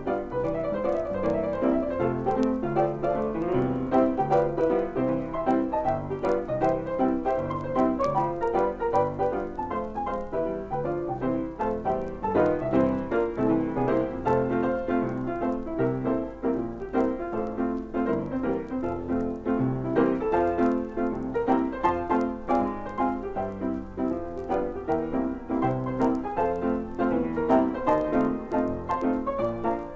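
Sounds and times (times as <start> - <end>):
piano-led cartoon music: 0.0 - 29.9.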